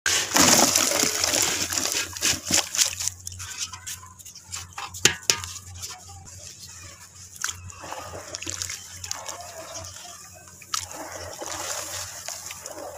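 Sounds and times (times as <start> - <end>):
dirt fizzing and crackling in water: 0.1 - 12.9.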